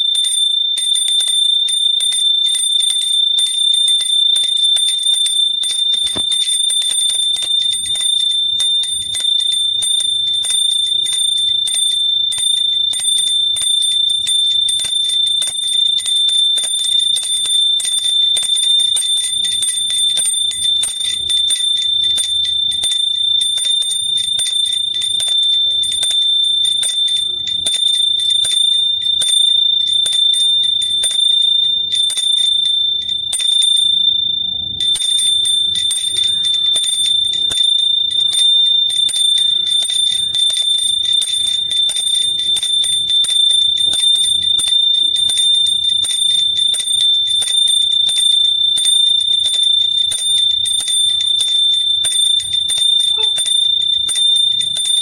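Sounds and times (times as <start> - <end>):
hand bell ringing: 0.0 - 55.0.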